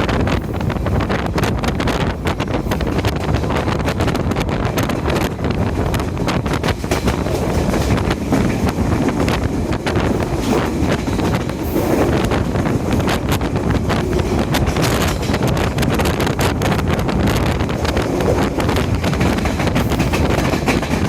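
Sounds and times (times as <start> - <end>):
train rumbling along track: 0.0 - 21.0
wheels clicking and knocking: 0.0 - 21.0
wind buffeting microphone: 0.0 - 21.0.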